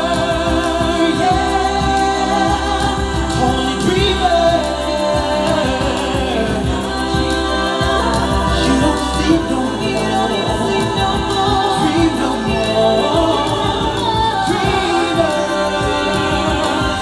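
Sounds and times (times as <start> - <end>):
a cappella group singing: 0.0 - 17.0.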